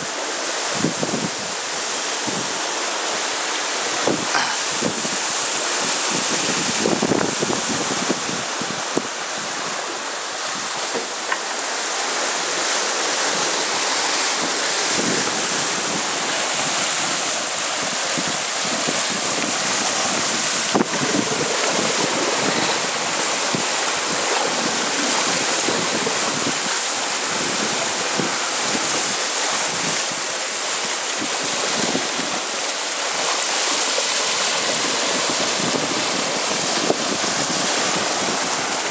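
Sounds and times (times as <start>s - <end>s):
water rushing along hulls: 0.0s - 38.9s
wind buffeting microphone: 0.7s - 2.8s, 3.9s - 11.5s, 13.2s - 32.5s, 34.4s - 38.9s.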